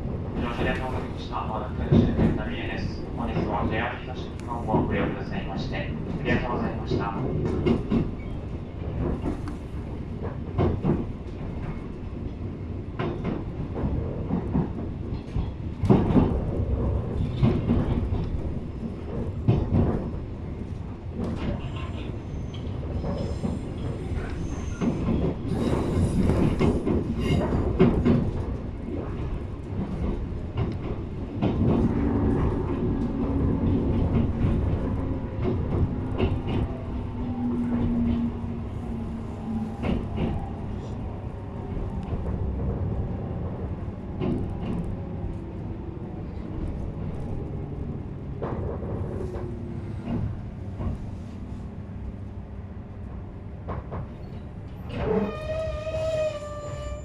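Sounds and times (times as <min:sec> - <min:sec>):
train car running rumble: 0:00.0 - 0:57.0.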